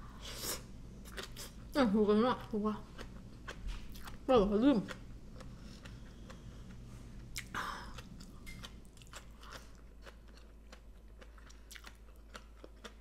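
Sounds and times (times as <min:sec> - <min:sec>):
person chewing: 0:00.3 - 0:01.6, 0:02.9 - 0:04.3, 0:04.9 - 0:13.0.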